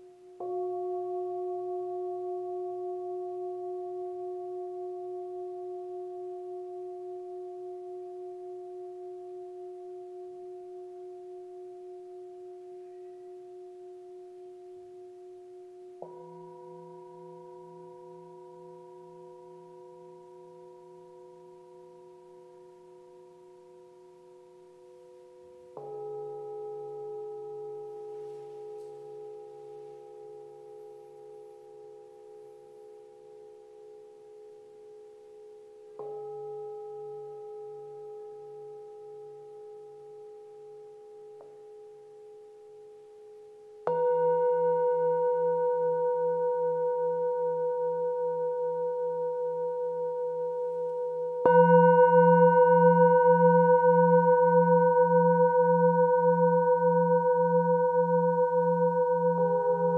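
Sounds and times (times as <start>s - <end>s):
singing bowls ringing: 0.0s - 42.4s, 43.8s - 59.9s.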